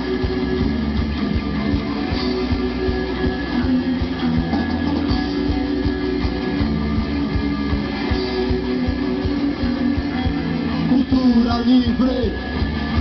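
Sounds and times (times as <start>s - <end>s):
punk band playing live: 0.0s - 13.0s.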